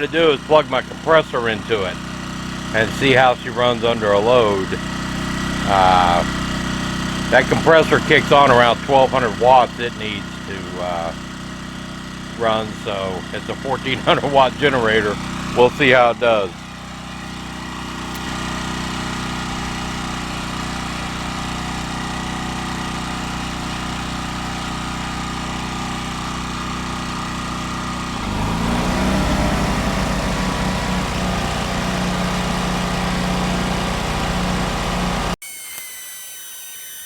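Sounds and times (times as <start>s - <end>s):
generator engine running: 0.0s - 35.4s
air compressor motor running: 0.0s - 37.0s.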